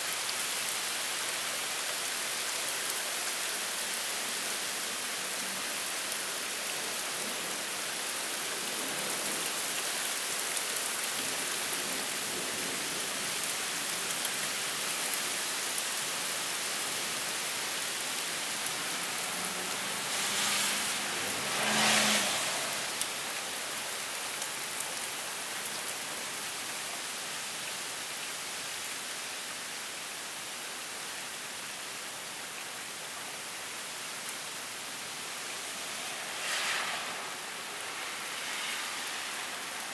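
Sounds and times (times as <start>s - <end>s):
heavy rain pouring: 0.0s - 39.9s
vehicle passing on wet road: 0.3s - 26.8s, 33.4s - 39.9s.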